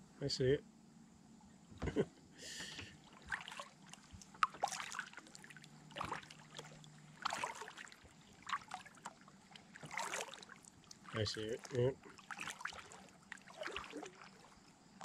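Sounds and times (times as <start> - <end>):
paddle splashing through water: 2.6 - 15.0.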